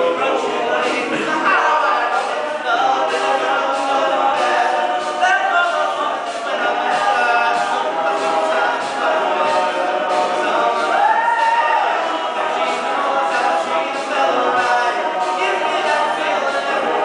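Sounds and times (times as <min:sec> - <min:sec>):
male backing vocals: 0:00.0 - 0:17.0
man singing lead: 0:00.0 - 0:17.0.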